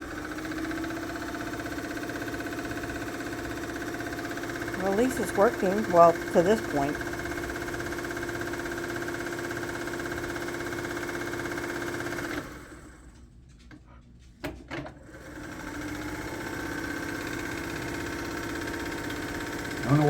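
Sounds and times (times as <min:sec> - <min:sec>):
sewing machine running: 0:00.0 - 0:12.7, 0:15.2 - 0:20.0.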